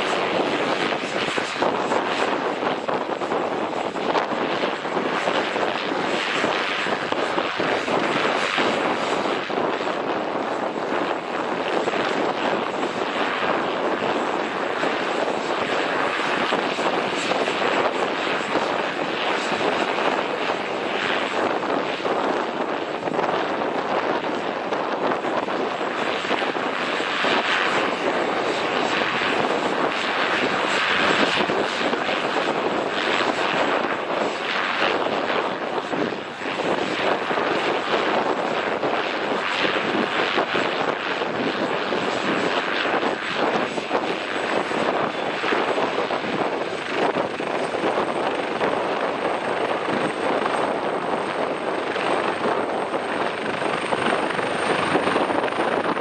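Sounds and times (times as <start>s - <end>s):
helicopter rotor and engine rush: 0.0s - 56.0s
high turbine whine: 0.0s - 56.0s.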